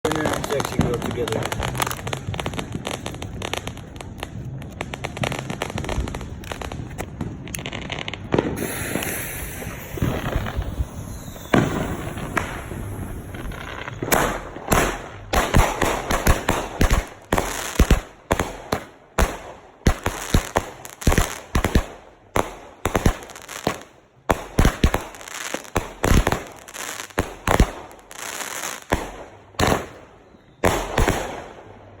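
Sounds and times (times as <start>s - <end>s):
fireworks bangs: 0.0s - 32.0s
fireworks crackling: 0.0s - 32.0s.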